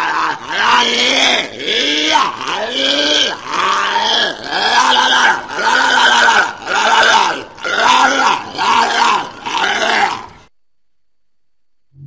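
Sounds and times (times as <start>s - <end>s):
walrus grunting calls: 0.0s - 10.5s.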